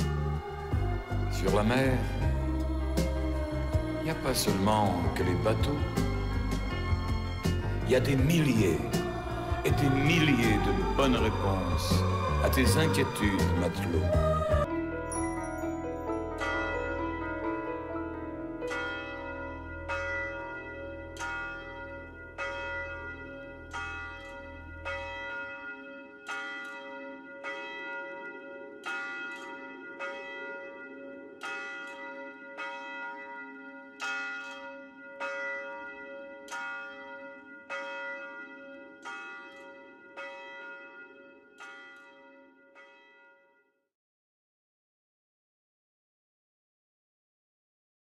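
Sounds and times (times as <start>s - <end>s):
church bells ringing: 0.0s - 43.7s.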